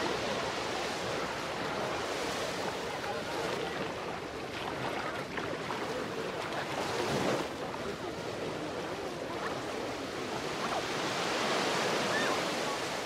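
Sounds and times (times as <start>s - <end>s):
faint distant voices: 0.0s - 13.0s
small waves lapping: 0.0s - 13.0s.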